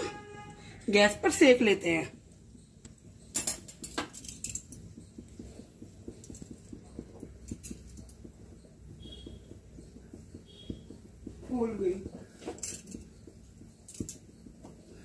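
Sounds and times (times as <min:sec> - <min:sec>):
bread crackling over flame: 0:00.0 - 0:15.0.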